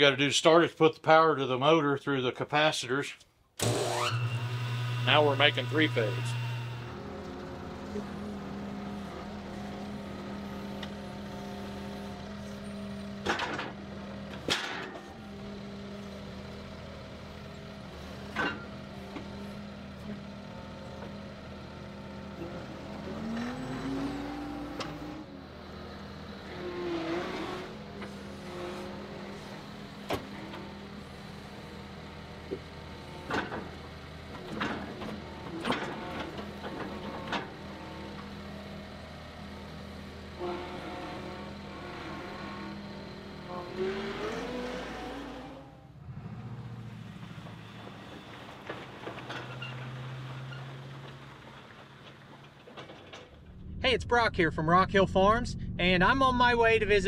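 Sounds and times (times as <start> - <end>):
skid steer engine running: 3.6 - 53.8.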